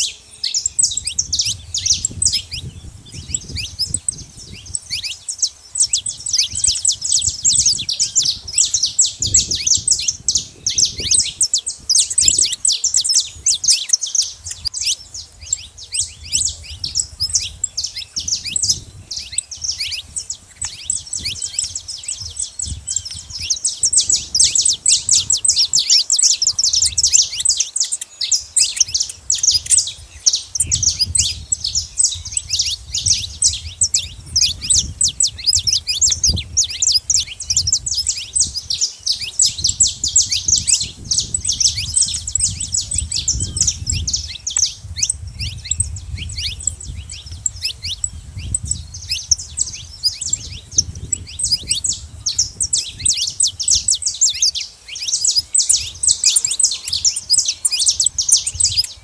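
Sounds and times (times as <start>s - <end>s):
finches chirping: 0.0s - 59.0s.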